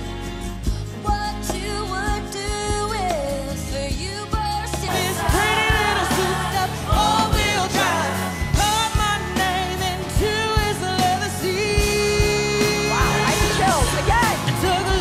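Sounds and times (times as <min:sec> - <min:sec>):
band with bass and drums: 0:00.0 - 0:15.0
singer's voice: 0:01.0 - 0:15.0.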